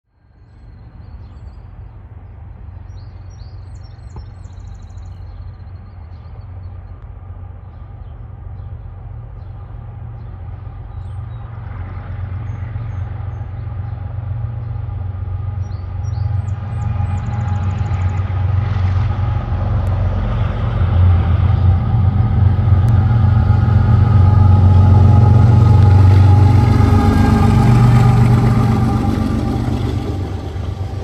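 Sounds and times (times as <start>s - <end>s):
locomotive engine rumble: 1.5s - 31.0s.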